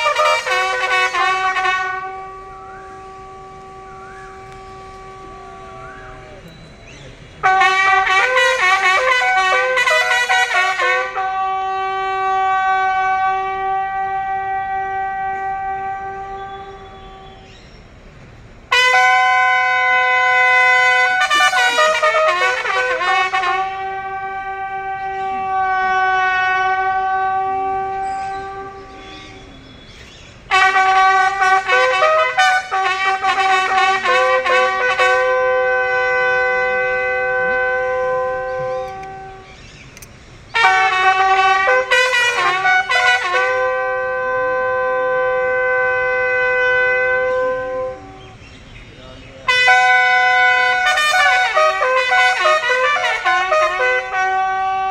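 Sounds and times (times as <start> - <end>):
bugle call: 0.0 - 17.9, 18.7 - 48.4, 49.4 - 54.9.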